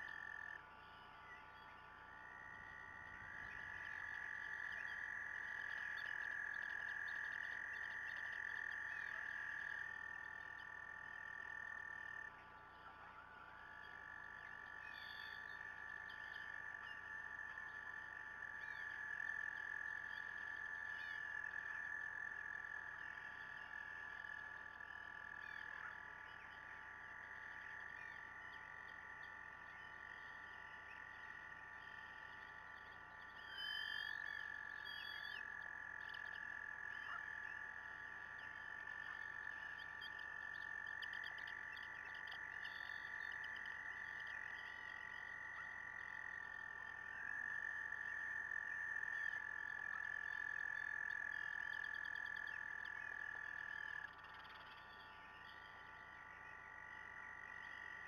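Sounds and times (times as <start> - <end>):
frogs trilling: 0.0 - 58.0.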